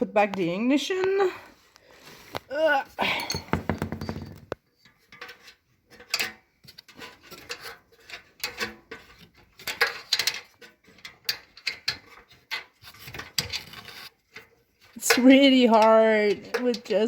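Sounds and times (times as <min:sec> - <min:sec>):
metal parts clicking and scraping: 0:03.1 - 0:17.0.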